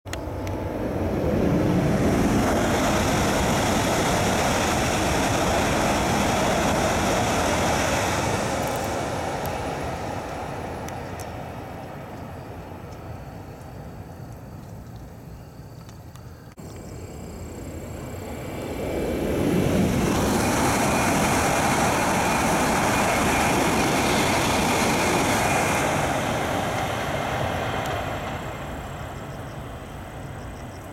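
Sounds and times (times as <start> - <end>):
bullet train passing at speed: 0.1 - 30.9.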